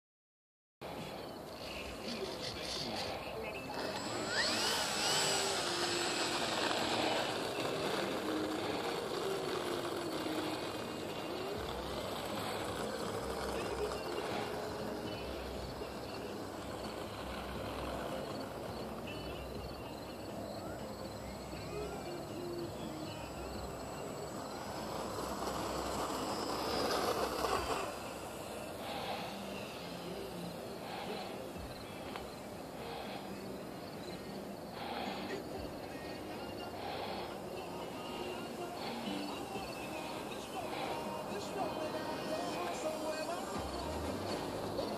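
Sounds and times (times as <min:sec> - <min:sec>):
birds chirping: 0:00.8 - 0:44.9
model airplane motor whirring: 0:01.4 - 0:44.9.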